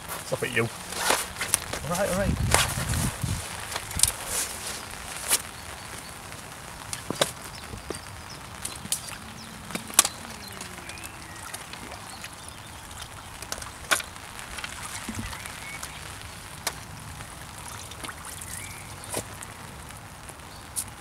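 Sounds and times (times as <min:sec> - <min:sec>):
water splashing and dripping: 0:00.0 - 0:21.0.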